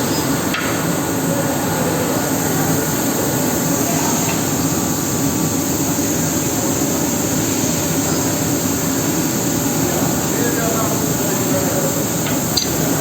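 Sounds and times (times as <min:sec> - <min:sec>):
laser cutter air rushing: 0:00.0 - 0:13.0.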